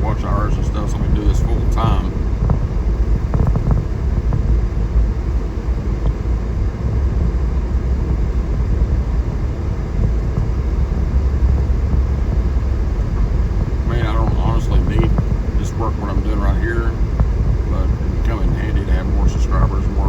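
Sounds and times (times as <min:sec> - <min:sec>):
engine and tyre rumble in car cabin: 0:00.0 - 0:20.0.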